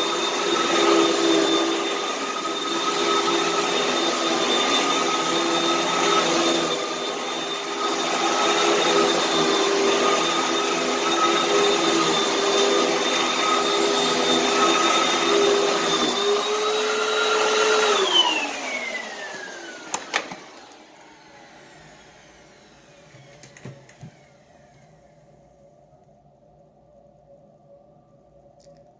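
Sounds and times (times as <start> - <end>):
vacuum cleaner motor whining: 0.0 - 26.4.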